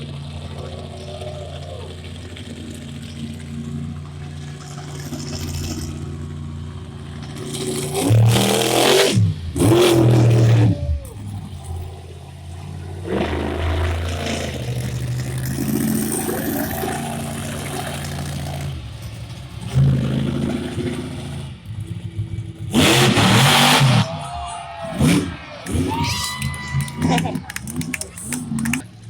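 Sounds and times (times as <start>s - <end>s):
monster truck engine revving: 0.0s - 29.0s.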